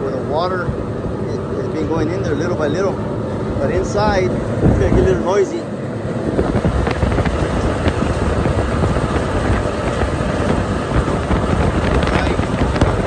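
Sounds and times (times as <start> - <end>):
exhaust fan air rush: 0.0 - 13.0
low motor hum: 0.0 - 13.0.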